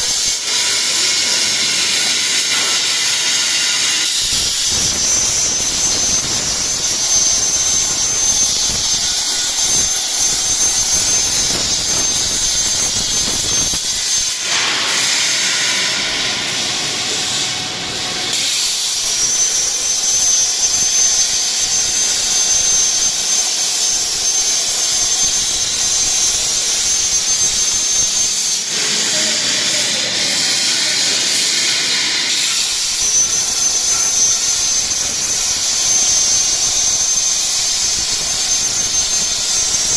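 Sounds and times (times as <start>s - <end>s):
plasma torch hissing: 0.0s - 17.7s, 18.3s - 39.9s
high whine: 2.5s - 39.9s.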